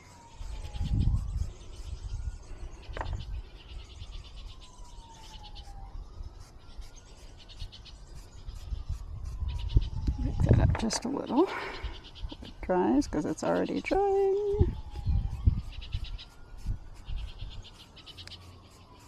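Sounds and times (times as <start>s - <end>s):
wind rumbling on microphone: 0.0s - 17.8s
faint siren wailing: 0.0s - 19.0s.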